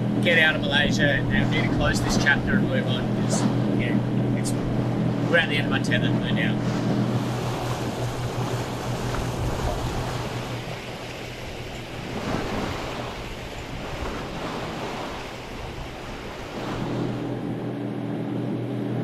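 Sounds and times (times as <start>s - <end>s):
wind buffeting microphone: 0.0s - 17.8s
water rushing along hull: 0.0s - 19.0s.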